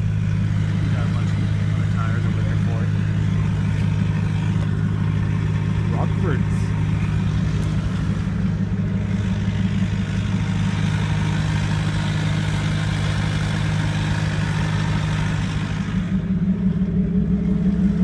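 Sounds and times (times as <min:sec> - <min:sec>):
diesel engine idling: 0:00.0 - 0:18.0
engine hiss: 0:00.0 - 0:18.0.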